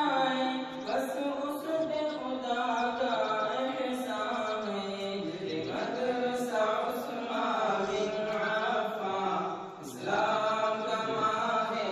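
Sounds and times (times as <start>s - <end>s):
person chanting: 0.0s - 11.9s.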